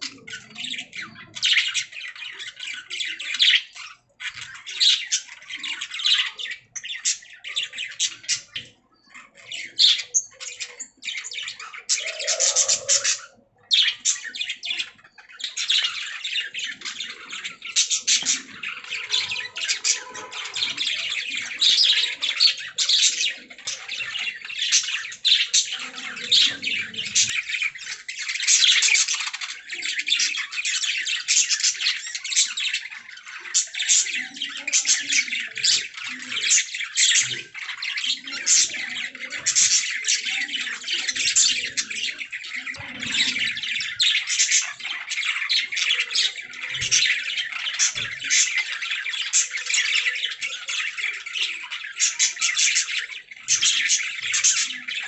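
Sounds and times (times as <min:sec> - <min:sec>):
budgies chirping and warbling: 0:00.0 - 0:55.0.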